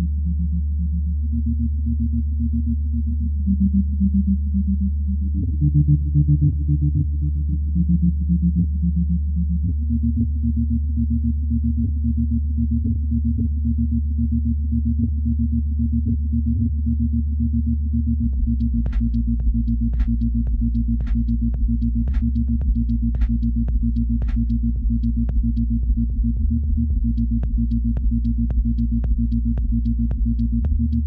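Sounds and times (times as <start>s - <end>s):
low synthesizer music: 0.0s - 31.0s.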